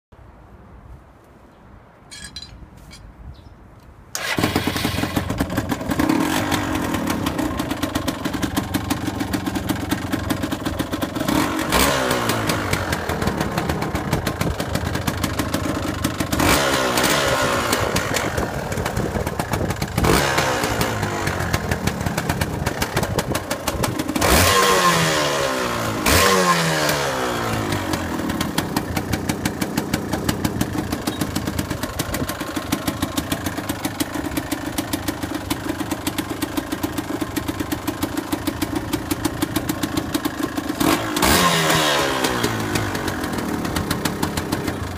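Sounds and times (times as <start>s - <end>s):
two-stroke engine idling and revving: 4.2s - 44.9s.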